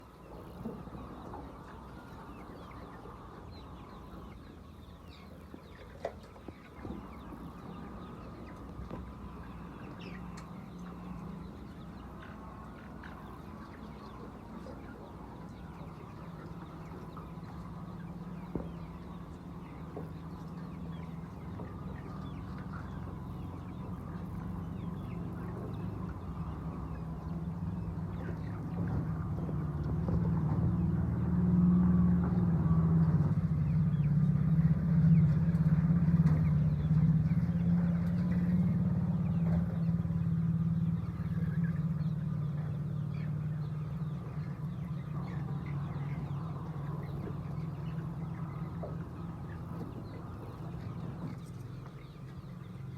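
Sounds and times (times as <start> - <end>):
hens clucking: 0.0 - 52.9
steady low hum: 0.0 - 52.9.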